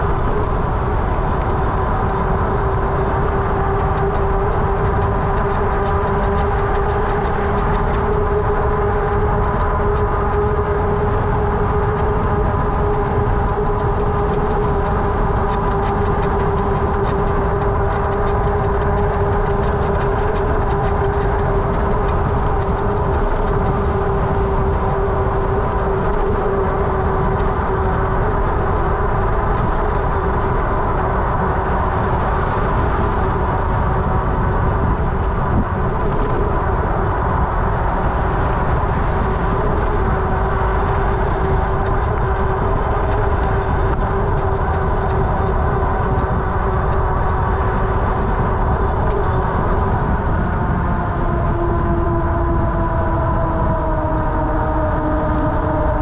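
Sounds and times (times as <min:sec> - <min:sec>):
wind and tyre noise: 0:00.0 - 0:56.0.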